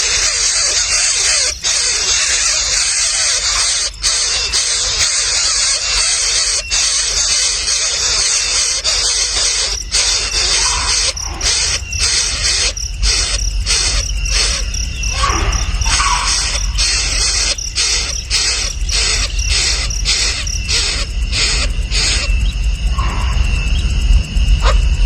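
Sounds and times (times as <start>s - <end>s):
nestling birds calling shrilly: 0.0s - 25.0s.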